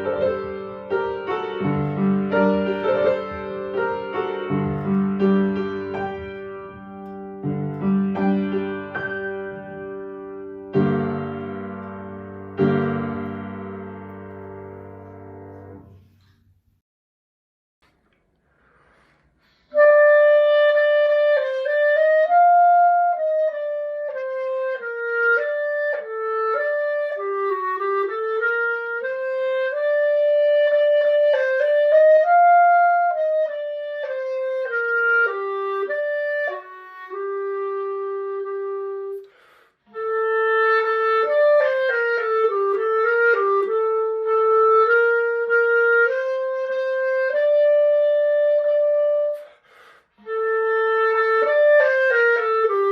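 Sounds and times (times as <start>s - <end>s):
solo clarinet melody: 0.0s - 16.0s, 19.7s - 52.9s.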